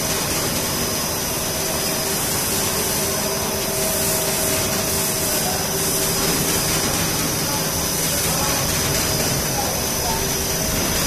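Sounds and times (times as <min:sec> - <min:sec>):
machine hum: 0:00.0 - 0:11.0
rush of cooling air from blowers: 0:00.0 - 0:11.0.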